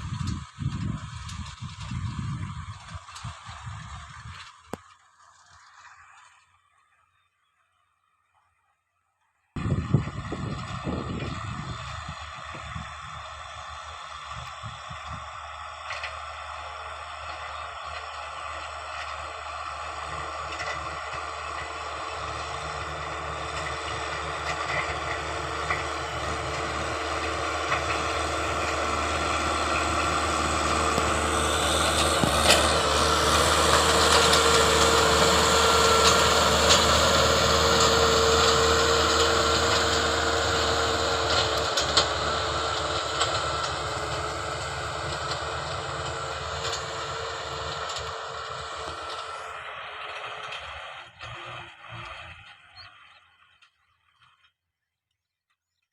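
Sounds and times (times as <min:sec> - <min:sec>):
farm machine engine running: 0:00.0 - 0:06.5, 0:09.6 - 0:54.5.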